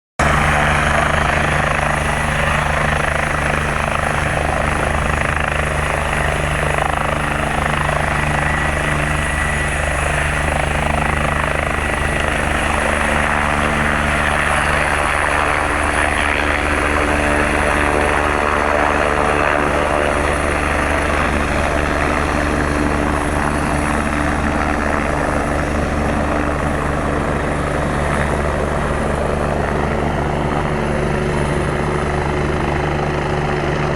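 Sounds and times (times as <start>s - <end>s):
helicopter rotor and turbine: 0.2s - 33.9s.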